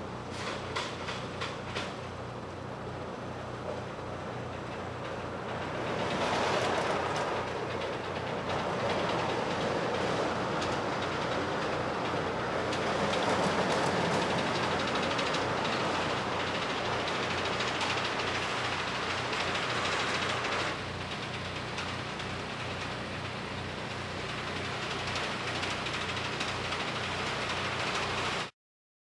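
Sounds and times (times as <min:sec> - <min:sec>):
roller coaster rumbling on track: 0:00.0 - 0:28.5
wheels clattering: 0:04.5 - 0:28.4.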